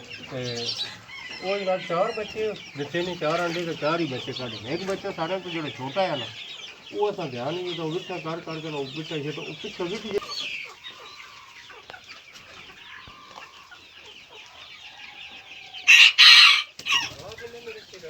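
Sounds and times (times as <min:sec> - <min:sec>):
chicks peeping: 0:00.0 - 0:18.0
hens clucking: 0:00.0 - 0:18.0.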